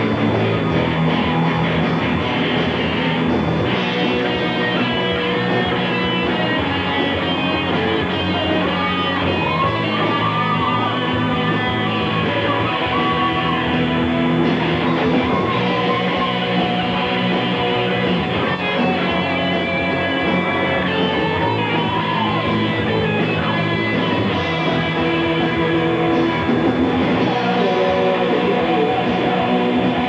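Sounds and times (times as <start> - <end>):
bending lead guitar line: 0.0 - 30.0
rock band playing: 0.0 - 30.0.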